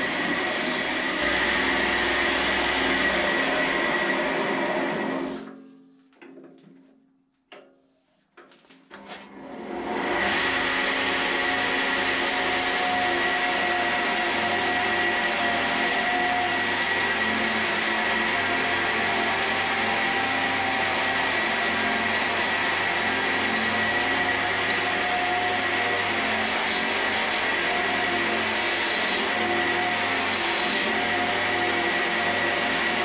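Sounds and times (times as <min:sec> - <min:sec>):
turning tool cutting wood: 0:00.0 - 0:05.5, 0:10.2 - 0:33.0
wood lathe whining: 0:00.0 - 0:05.7, 0:09.2 - 0:33.0.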